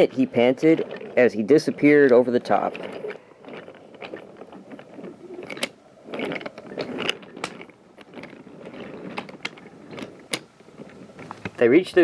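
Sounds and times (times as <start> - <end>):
wooden toy trucks rattling on track: 0.0 - 12.0.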